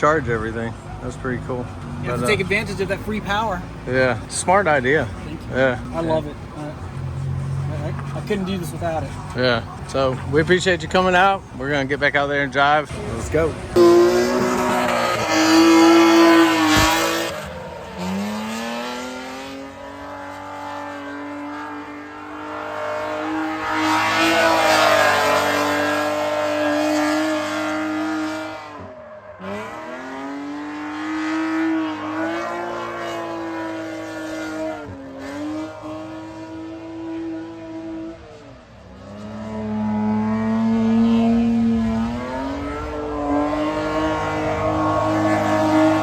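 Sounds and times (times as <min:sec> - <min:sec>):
car engine at high revs: 0:00.0 - 0:46.0.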